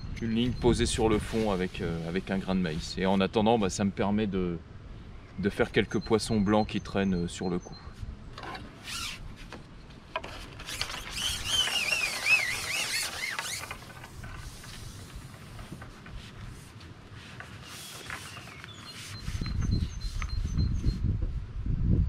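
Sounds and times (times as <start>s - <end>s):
faint outdoor background noise: 0.0s - 22.0s.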